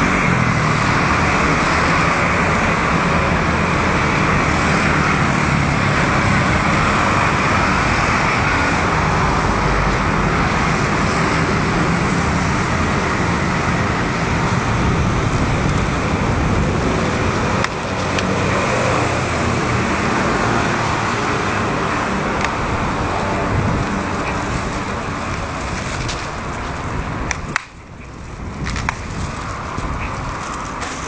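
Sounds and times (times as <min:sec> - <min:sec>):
road traffic rushing: 0:00.0 - 0:31.0.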